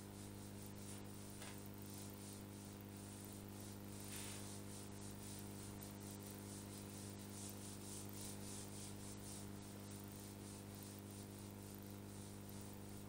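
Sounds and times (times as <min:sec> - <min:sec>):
low electrical hum: 0:00.0 - 0:13.0
eraser rubbing whiteboard: 0:00.2 - 0:13.0.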